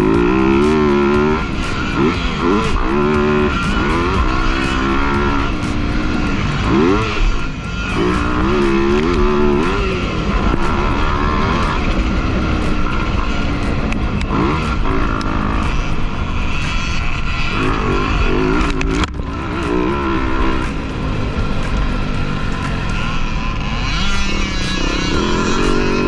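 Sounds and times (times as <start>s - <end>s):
motocross bike engine revving: 0.0s - 26.0s
steady rushing noise: 0.0s - 26.0s.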